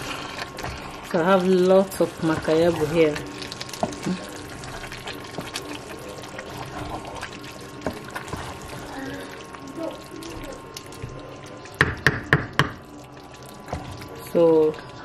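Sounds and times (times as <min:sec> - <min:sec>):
spoon stirring thick stew: 0:00.0 - 0:15.0.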